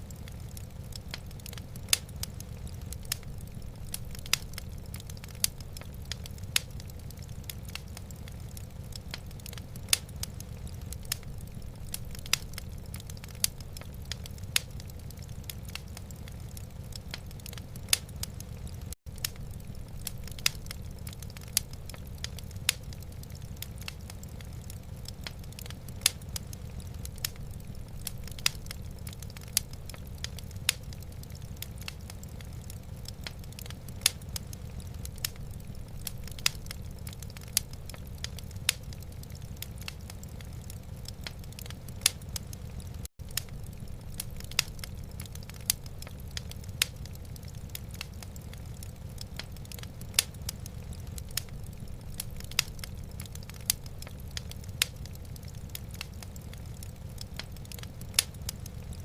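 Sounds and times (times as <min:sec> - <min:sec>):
low fire rumble: 0:00.0 - 0:59.0
wood fire crackling and popping: 0:00.0 - 0:59.0.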